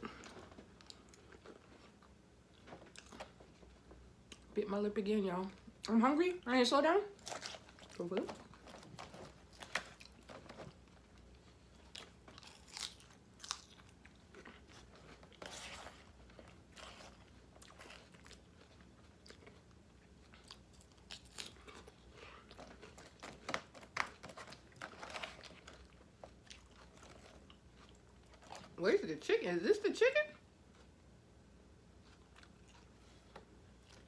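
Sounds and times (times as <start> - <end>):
person chewing crunchy salad: 0.0 - 4.5, 7.2 - 28.8, 32.0 - 34.0.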